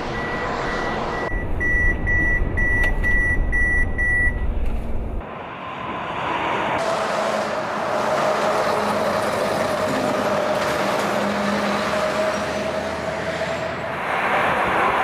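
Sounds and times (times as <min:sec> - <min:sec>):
heavy vehicle running: 0:00.0 - 0:15.0.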